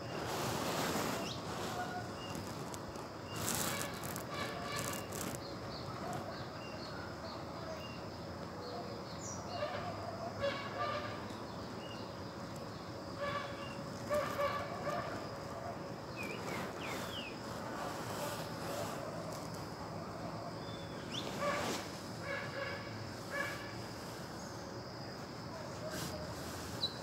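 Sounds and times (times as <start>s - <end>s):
high insect drone: 0.0s - 27.0s.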